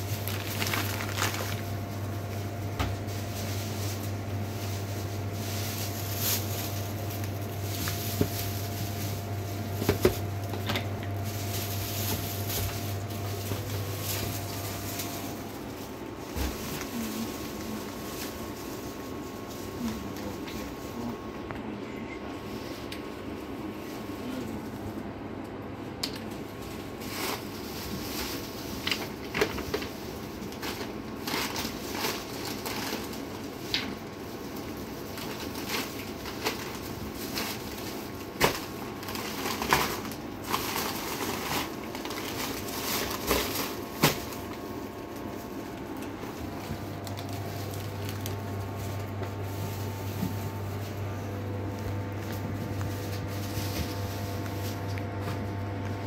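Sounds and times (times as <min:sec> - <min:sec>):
plastic bag crinkling: 0:00.0 - 0:21.2, 0:26.4 - 0:56.0
steady low hum: 0:00.0 - 0:56.0.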